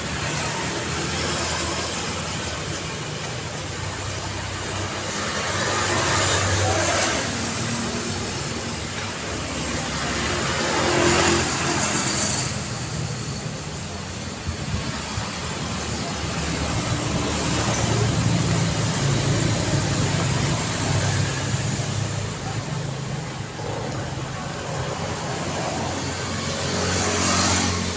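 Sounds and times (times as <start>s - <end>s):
cars passing: 0.0s - 27.9s.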